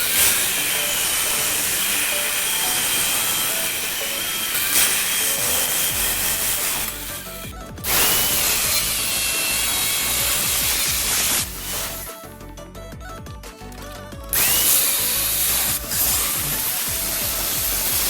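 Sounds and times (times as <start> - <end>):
arc welding hissing crackle: 0.0 - 12.3, 14.3 - 18.0.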